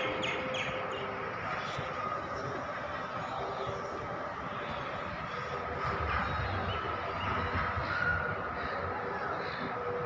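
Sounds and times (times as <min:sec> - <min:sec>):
distant voices: 0:00.0 - 0:10.0
traffic rumble: 0:00.0 - 0:10.0.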